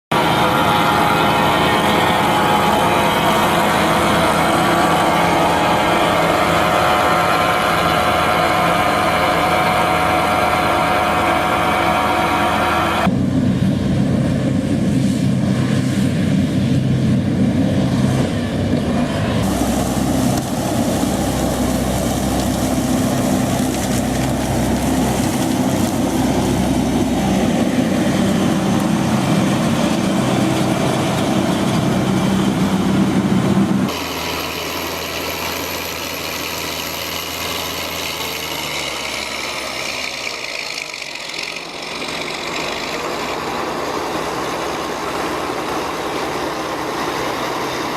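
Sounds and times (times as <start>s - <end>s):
heavy machinery engines droning: 0.1s - 47.9s.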